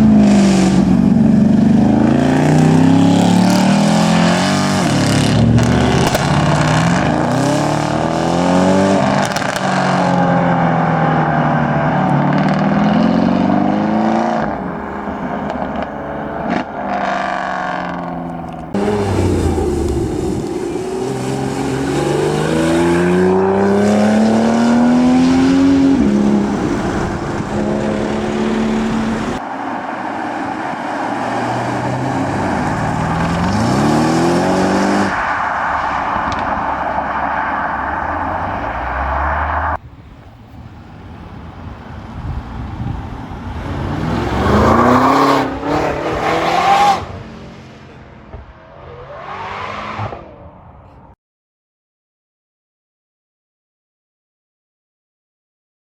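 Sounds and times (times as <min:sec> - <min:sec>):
car engines revving while accelerating: 0:00.0 - 0:39.8, 0:43.0 - 0:50.4.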